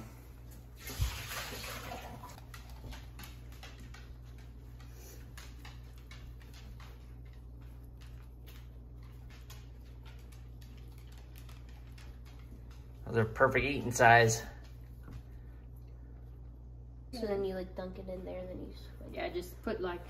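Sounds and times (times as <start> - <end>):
steady low hum: 2.3 - 20.0.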